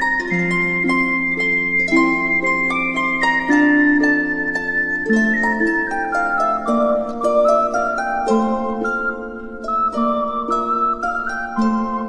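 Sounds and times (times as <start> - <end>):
plucked melody music: 0.0 - 12.0.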